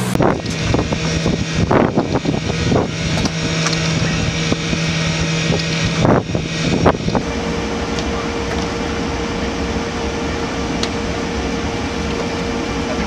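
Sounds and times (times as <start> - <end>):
mechanical drone hum: 0.0 - 13.0.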